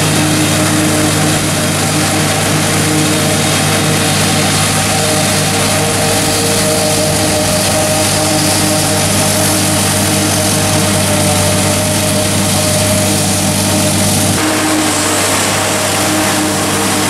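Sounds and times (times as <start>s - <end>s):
forage harvester rushing hiss: 0.0s - 17.0s
tractor engine hum: 0.0s - 17.0s.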